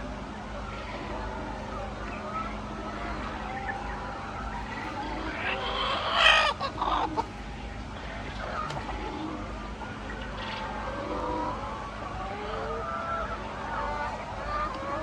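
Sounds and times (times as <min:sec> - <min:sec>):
hens clucking: 0:00.0 - 0:15.0
steady low hum: 0:00.0 - 0:15.0.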